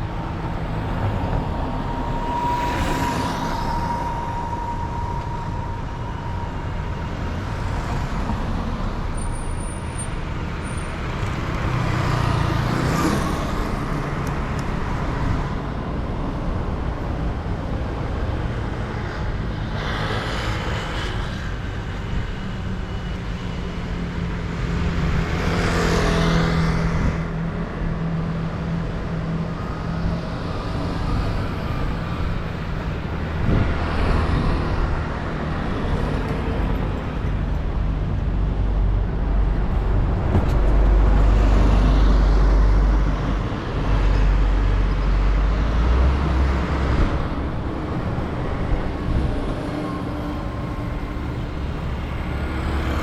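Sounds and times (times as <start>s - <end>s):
cars passing: 0.0s - 53.0s
large vehicle rumbling past: 0.0s - 53.0s.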